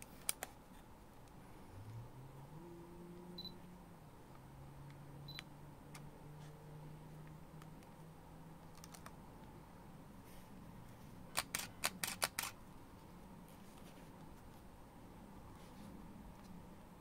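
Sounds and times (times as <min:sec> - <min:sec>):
faint low motor hum: 0:00.0 - 0:17.0.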